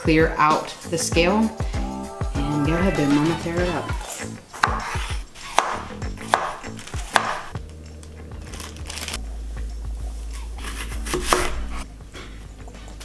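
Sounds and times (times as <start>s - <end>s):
quiet background music with bass: 0.0s - 13.0s.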